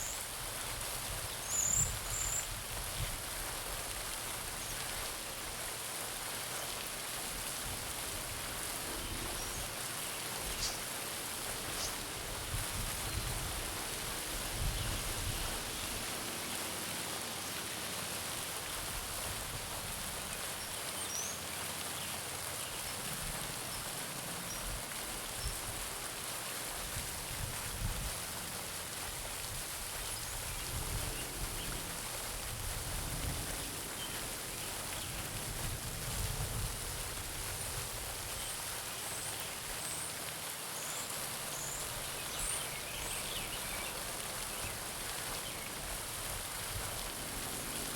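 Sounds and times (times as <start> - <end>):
fountain splashing into pond: 0.0 - 47.9.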